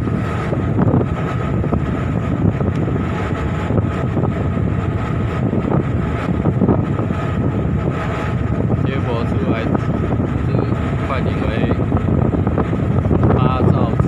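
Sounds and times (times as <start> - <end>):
boat engines running: 0.0 - 14.0
wind buffeting microphone: 0.0 - 14.0.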